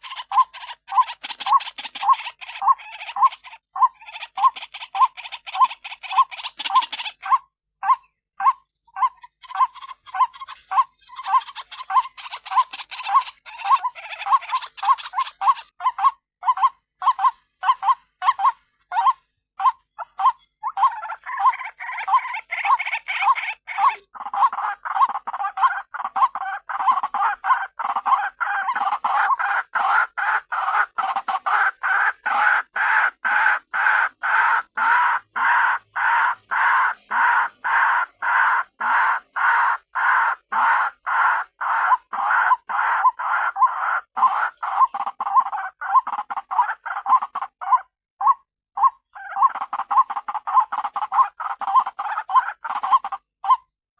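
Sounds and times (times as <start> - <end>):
waterhen calling: 0.0 - 53.7.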